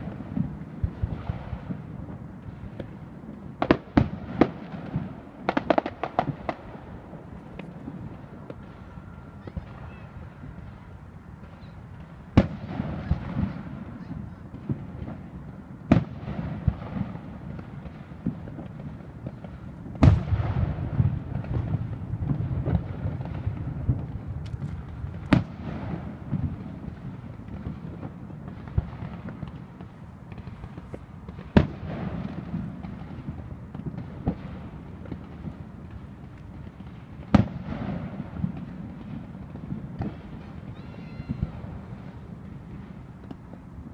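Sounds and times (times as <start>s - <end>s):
fireworks bangs: 0.0s - 43.9s
fireworks crackling and rumbling: 0.0s - 43.9s.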